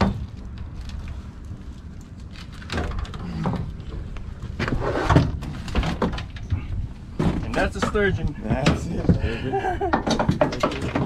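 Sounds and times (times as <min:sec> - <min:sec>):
steady low rumble: 0:00.0 - 0:04.7, 0:05.4 - 0:09.9.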